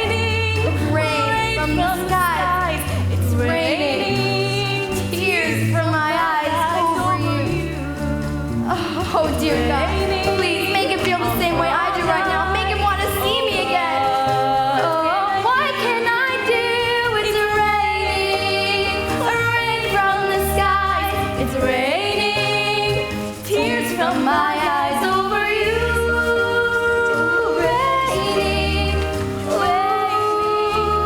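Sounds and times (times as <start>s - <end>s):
live band with bass line: 0.0s - 31.0s
woman singing a ballad: 0.0s - 31.0s.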